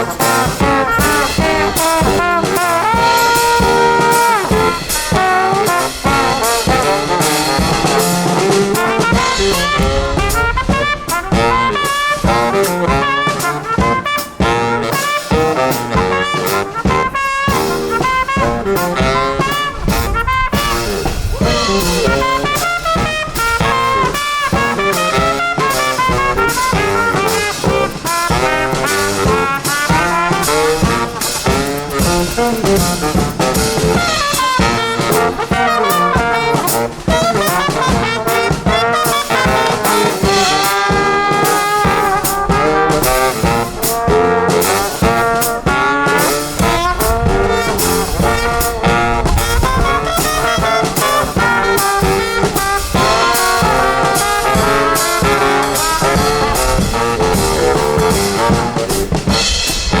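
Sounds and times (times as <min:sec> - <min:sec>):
brass band playing: 0:00.0 - 1:00.0
driving drum beat: 0:00.0 - 1:00.0.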